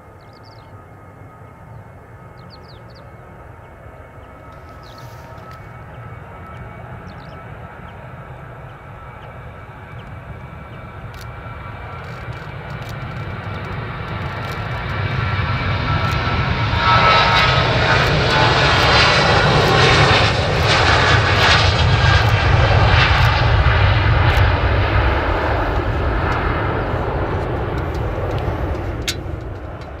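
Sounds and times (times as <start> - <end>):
jet engines roaring on take-off: 0.0 - 30.0.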